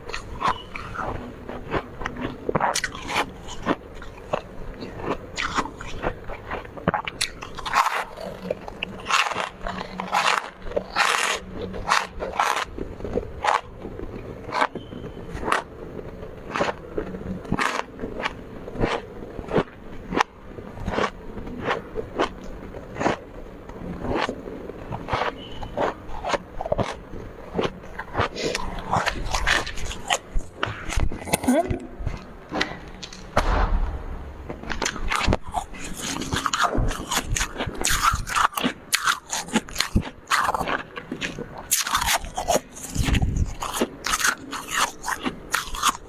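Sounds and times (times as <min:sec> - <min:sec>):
crunching frost while chewing: 0:00.0 - 0:46.0.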